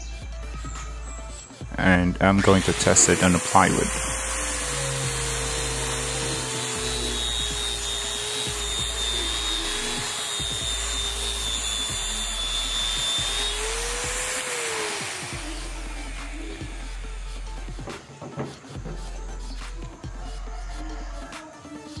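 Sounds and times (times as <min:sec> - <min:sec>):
angle grinder sanding wood: 0:01.8 - 0:20.4.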